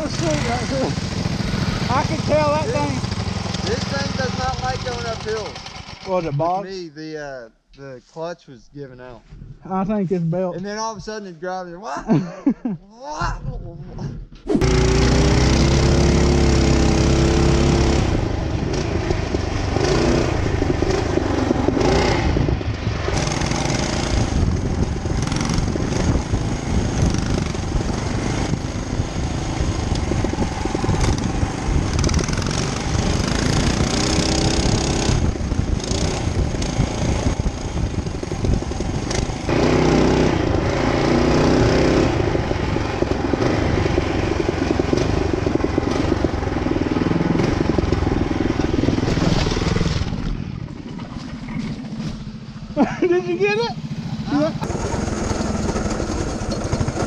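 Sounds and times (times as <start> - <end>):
mini bike engine revving: 0.0 - 6.6, 14.5 - 57.0.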